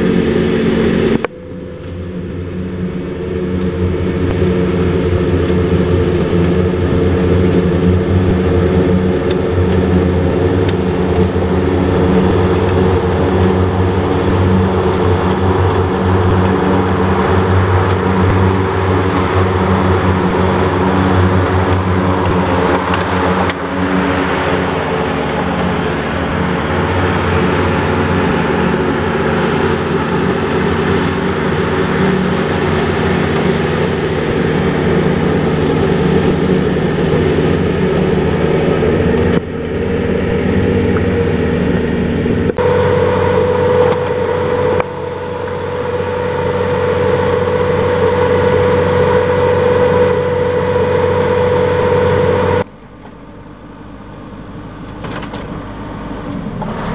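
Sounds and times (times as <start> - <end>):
diesel engine running: 0.0 - 56.9
mower cutting decks whirring: 0.0 - 56.9.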